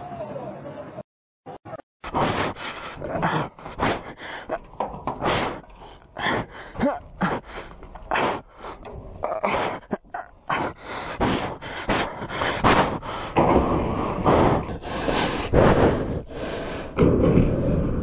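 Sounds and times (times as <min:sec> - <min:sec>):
person breathing hard and grunting: 0:02.0 - 0:18.0.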